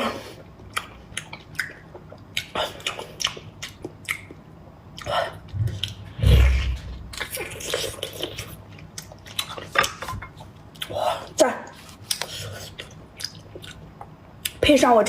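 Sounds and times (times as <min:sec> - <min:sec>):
person chewing wet mouth noises: 0:00.7 - 0:10.1, 0:10.7 - 0:14.6.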